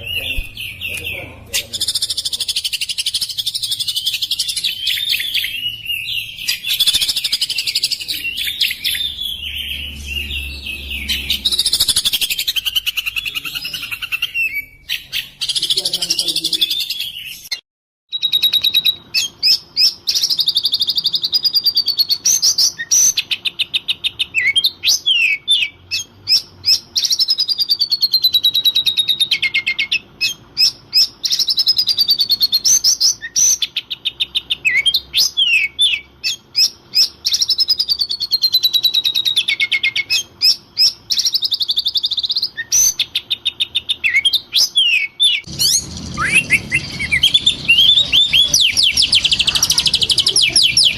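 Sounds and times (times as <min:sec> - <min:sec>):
bird song with trills and whistles: 0:00.0 - 0:50.9.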